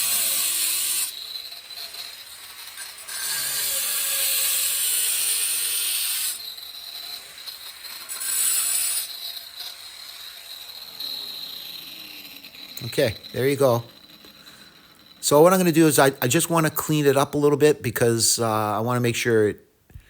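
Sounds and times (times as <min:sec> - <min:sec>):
angle grinder cutting tile: 0:00.0 - 0:17.5.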